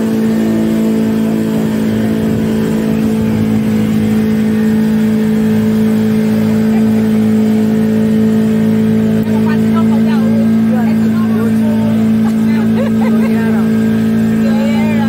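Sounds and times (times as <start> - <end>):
speedboat engine running: 0.0 - 15.0
water noise: 0.0 - 15.0
wind: 0.0 - 15.0.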